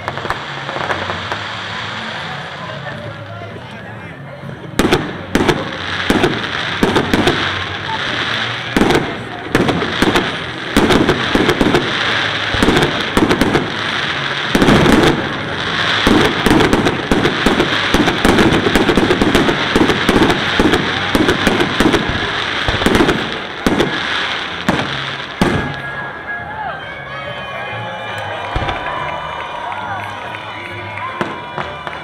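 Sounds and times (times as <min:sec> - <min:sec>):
fireworks booming and crackling: 0:00.0 - 0:26.4, 0:28.4 - 0:32.0.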